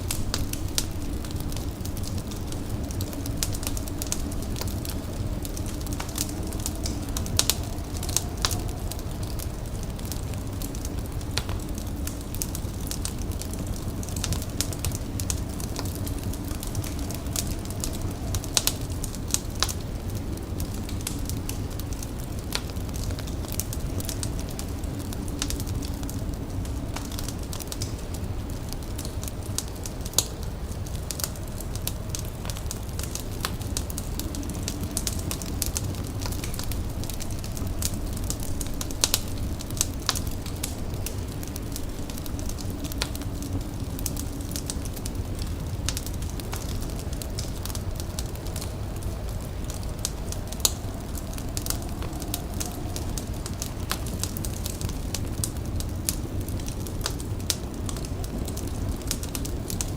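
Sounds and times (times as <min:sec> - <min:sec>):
fire crackling and popping: 0:00.0 - 0:59.9
steady low rumble: 0:00.0 - 0:59.9.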